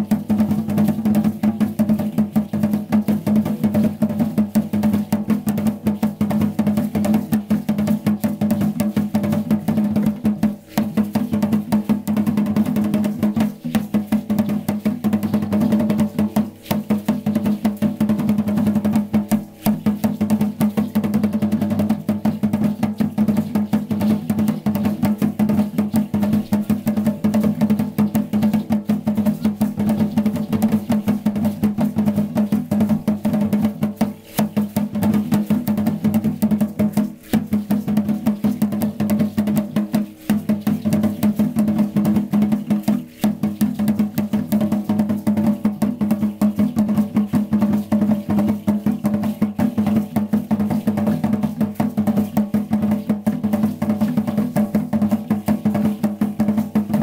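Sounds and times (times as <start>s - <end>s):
drums beaten with sticks: 0.0s - 57.0s.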